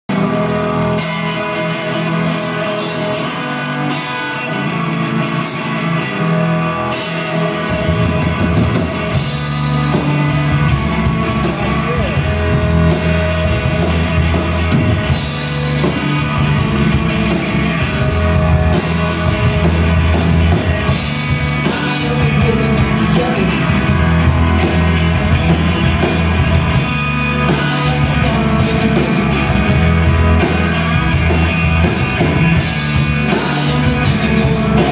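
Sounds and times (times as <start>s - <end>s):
bass guitar: 0.0s - 34.9s
electric guitar: 0.1s - 34.9s
drum kit beat: 0.2s - 4.4s, 6.9s - 34.9s.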